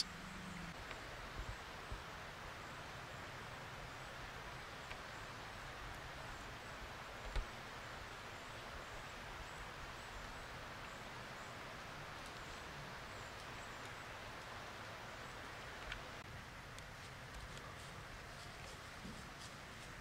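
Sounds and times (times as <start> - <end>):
woodland ambience hiss: 0.0 - 20.0.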